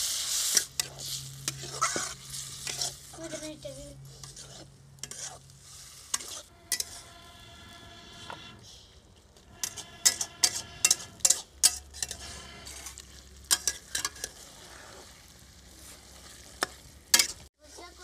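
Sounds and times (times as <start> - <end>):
curry sizzling in a pan: 0.0 - 8.2, 9.2 - 18.0
metal spatula scraping a pan: 0.1 - 8.8, 9.4 - 17.5.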